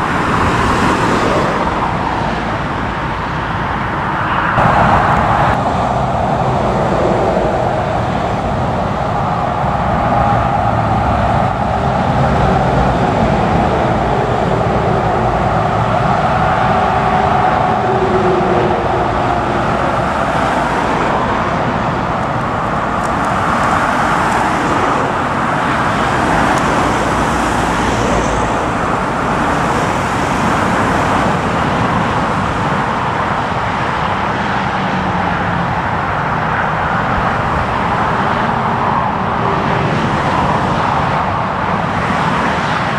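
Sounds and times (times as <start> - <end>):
vehicles driving past: 0.0 - 42.9.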